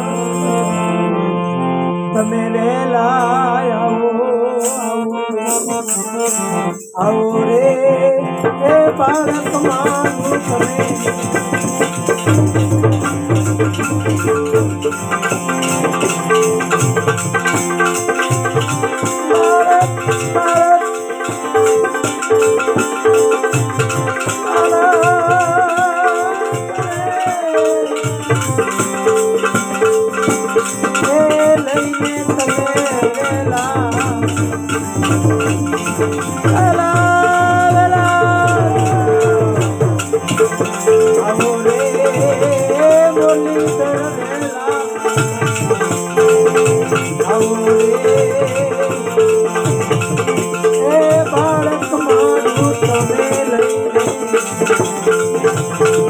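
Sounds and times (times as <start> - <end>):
hand drum beat: 8.7 - 56.0
wavering melody instrument: 9.0 - 56.0.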